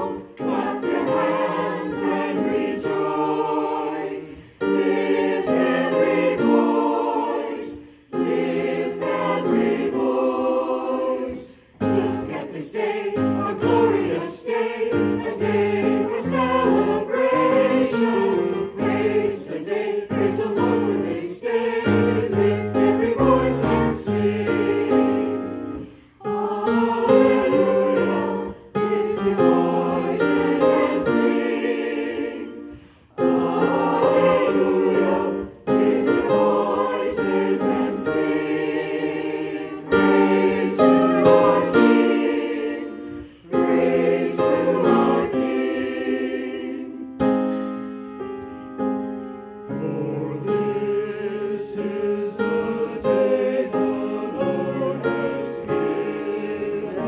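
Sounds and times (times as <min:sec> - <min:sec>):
choir singing in parts: 0:00.0 - 0:57.0
piano accompaniment: 0:00.0 - 0:57.0.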